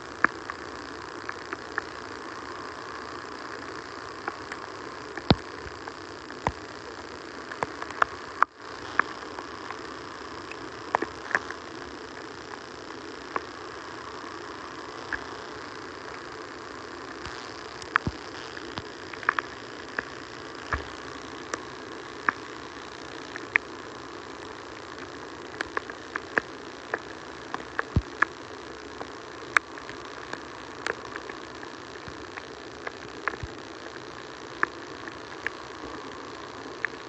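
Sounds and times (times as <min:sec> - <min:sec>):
rain on a microphone: 0:00.0 - 0:37.0.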